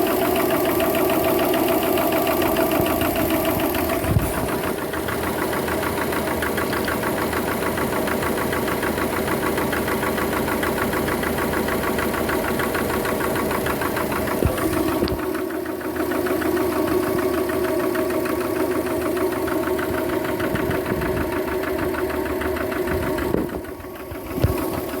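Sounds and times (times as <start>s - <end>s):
engine running with fast knock: 0.0s - 25.0s.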